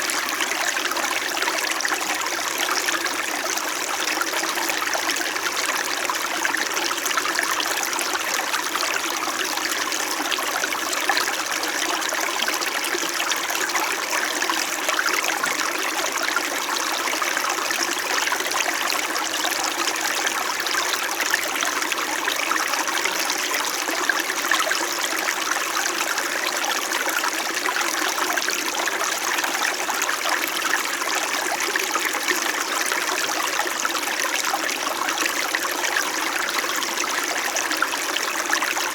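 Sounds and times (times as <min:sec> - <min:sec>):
stream burbling over stones: 0:00.0 - 0:38.9.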